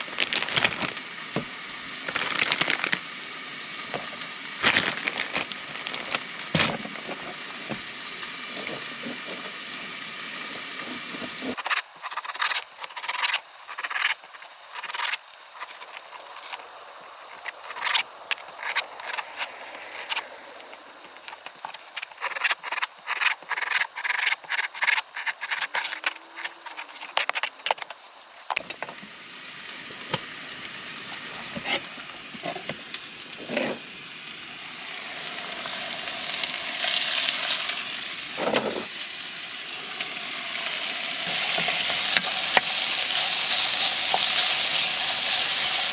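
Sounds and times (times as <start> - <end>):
fatty meat sizzling in a pan: 0.0 - 45.9.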